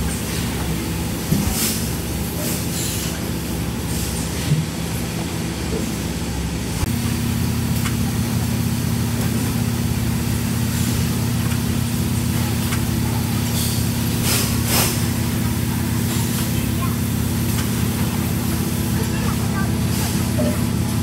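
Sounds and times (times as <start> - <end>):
machine hum of conveyors: 0.0 - 21.0.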